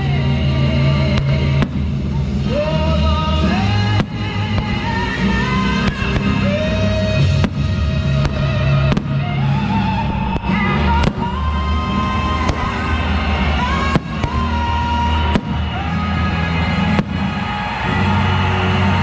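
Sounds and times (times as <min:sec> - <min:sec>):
fireworks bangs: 0:01.0 - 0:19.0.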